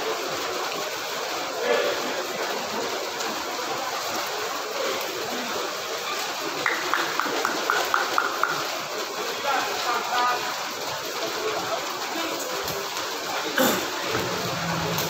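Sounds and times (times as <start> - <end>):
sports hall crowd hubbub: 0.0 - 15.0.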